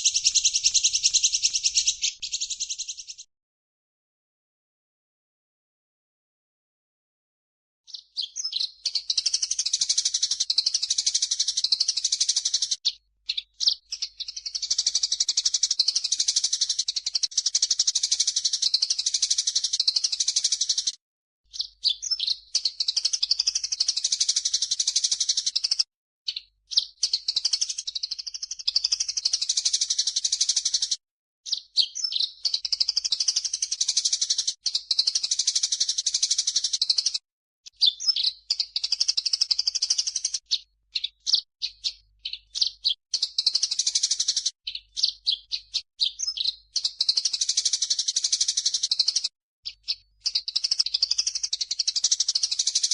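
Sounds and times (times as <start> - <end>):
songbirds twittering and chirping: 0.0 - 3.3, 7.9 - 52.9.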